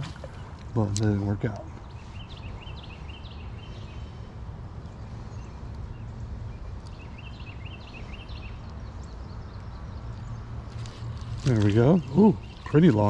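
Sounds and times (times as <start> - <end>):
bird chirping: 0.0 - 4.2, 4.8 - 13.0.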